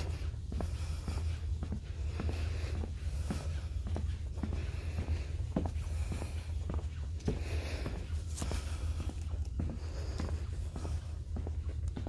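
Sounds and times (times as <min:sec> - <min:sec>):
footsteps on wooden planks: 0:00.0 - 0:12.0.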